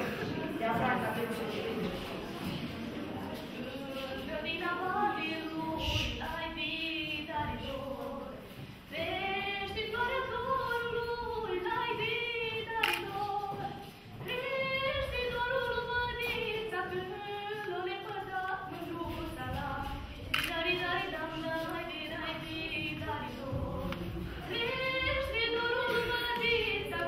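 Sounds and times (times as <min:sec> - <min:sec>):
group singing unaccompanied: 0:00.0 - 0:27.0.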